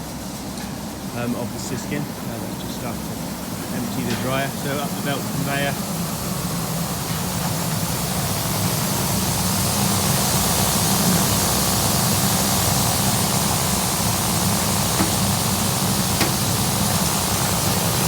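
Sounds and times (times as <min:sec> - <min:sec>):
grain flowing on belt conveyor: 0:00.0 - 0:18.0
machinery hum: 0:00.0 - 0:18.0.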